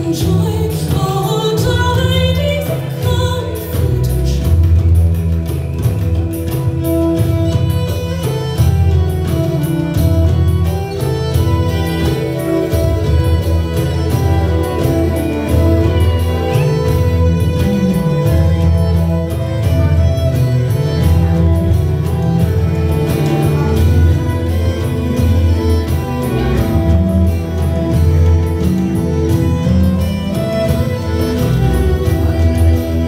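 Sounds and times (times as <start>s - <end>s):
belly dance music over loudspeakers: 0.0s - 33.0s.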